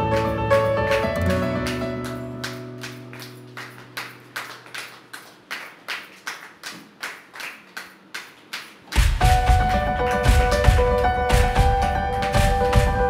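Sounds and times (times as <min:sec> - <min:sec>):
hands clapping in rhythm: 0:00.0 - 0:13.0.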